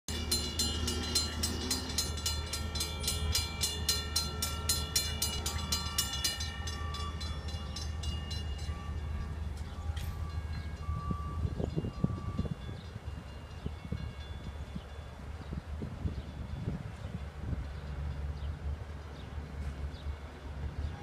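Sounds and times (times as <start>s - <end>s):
crossing warning bell ringing: 0.1s - 18.4s.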